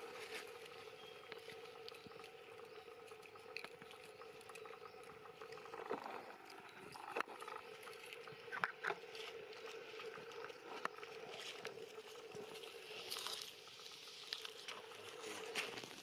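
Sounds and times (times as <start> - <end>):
rustling of dry leaves: 0.0 - 5.0, 7.8 - 16.0
steady low hum: 0.0 - 16.0.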